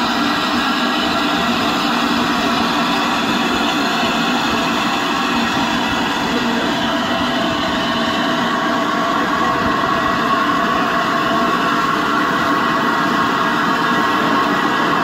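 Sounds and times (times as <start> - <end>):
steam locomotive hissing steam: 0.0 - 15.0.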